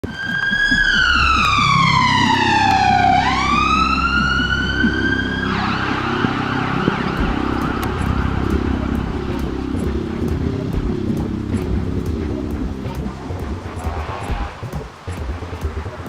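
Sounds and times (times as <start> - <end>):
siren wailing: 0.0 - 14.8
low rumble: 0.1 - 16.0.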